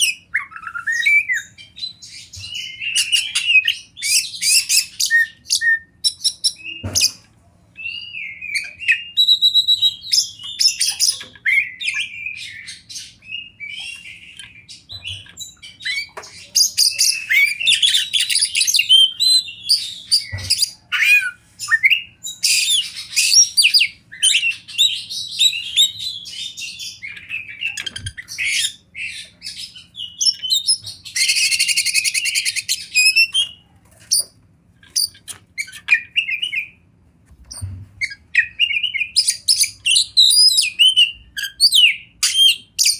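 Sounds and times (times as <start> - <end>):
bird singing whistles and chirps: 0.0 - 7.2, 7.8 - 33.6, 35.0 - 36.8, 37.5 - 42.9.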